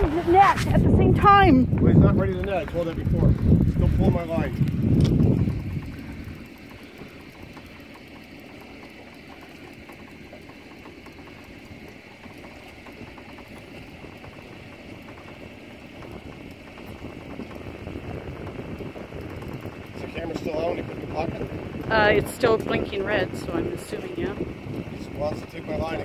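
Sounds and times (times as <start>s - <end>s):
boat on choppy water: 0.0s - 26.0s.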